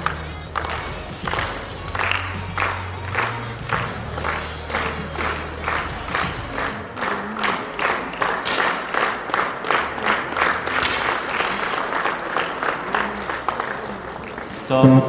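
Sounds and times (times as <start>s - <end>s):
audience clapping in unison: 0.0s - 14.8s.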